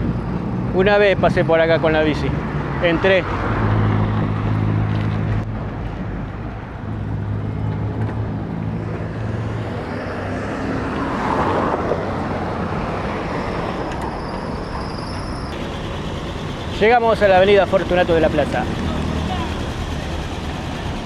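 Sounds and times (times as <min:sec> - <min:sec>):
passing traffic: 0:00.0 - 0:21.0
vehicle engine low hum: 0:03.5 - 0:21.0.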